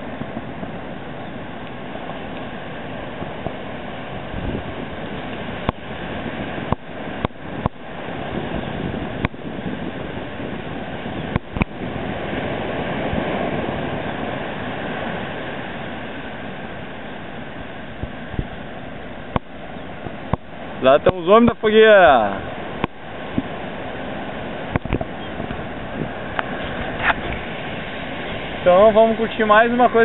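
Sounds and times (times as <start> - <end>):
surf breaking on beach: 0.0 - 30.0.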